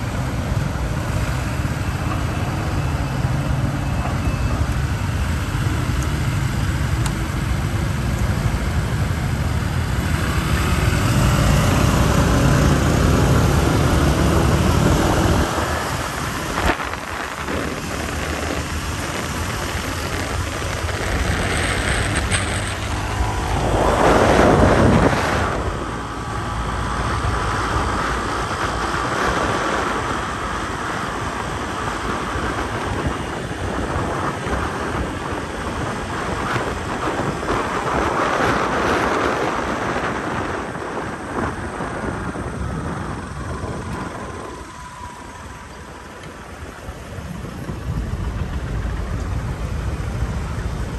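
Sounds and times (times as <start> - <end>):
motorbike engine running: 0.0 - 50.9
traffic: 0.0 - 50.9
wind rushing over microphone: 0.0 - 50.9.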